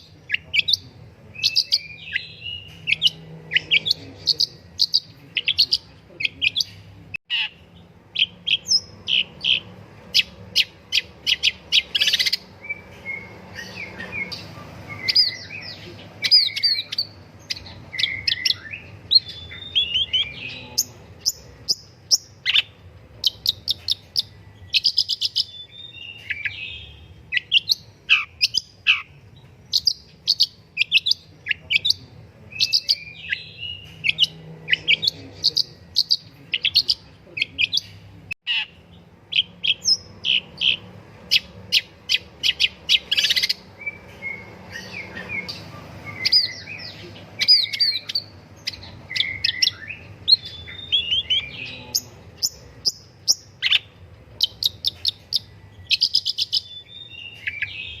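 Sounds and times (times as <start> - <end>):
bird singing chattering notes: 0.0 - 58.0.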